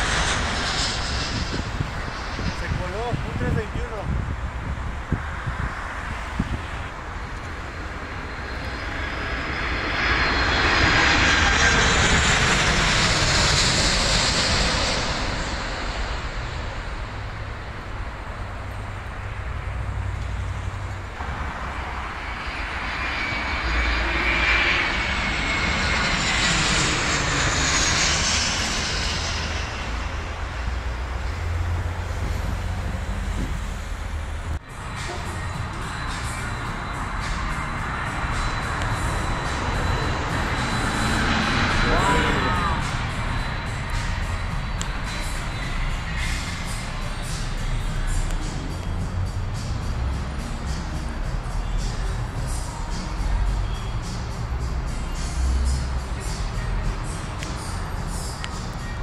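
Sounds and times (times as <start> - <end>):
engine whine sliding in pitch: 0.0 - 3.7, 4.8 - 59.0
low rumble: 0.0 - 48.3
jet engines passing: 0.0 - 59.0.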